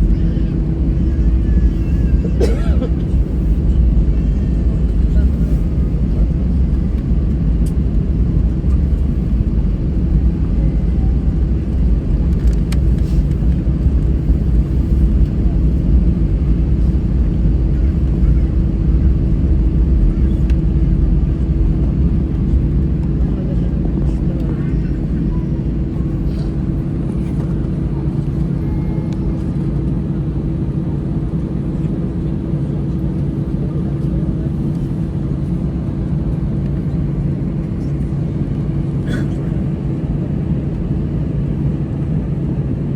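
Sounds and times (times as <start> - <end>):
faint hum: 0.0 - 42.8
jet engine and airflow rumble: 0.0 - 42.9.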